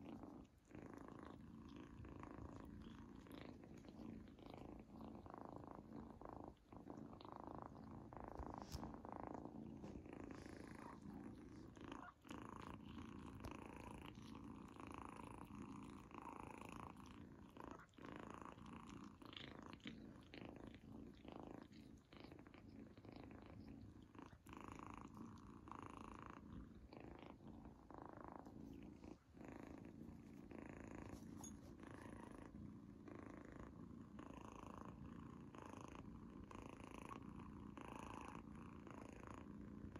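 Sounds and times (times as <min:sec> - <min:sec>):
kitten purring: 0:00.0 - 0:39.9.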